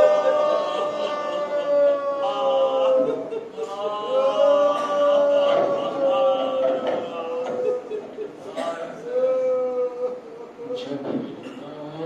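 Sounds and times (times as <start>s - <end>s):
men wailing in mourning: 0.0s - 10.7s.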